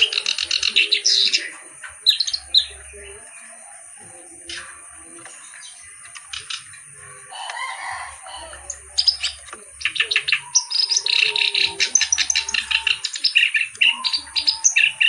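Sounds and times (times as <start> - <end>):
reed warbler singing: 0.0 - 15.0.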